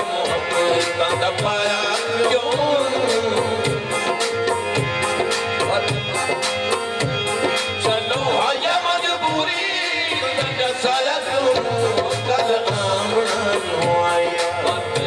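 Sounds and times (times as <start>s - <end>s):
man singing into a microphone: 0.0s - 15.0s
tabla rhythm: 0.0s - 15.0s.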